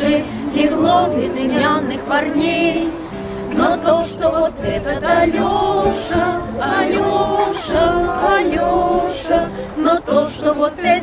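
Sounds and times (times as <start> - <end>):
acoustic guitar: 0.0 - 11.0
women singing together: 0.0 - 11.0.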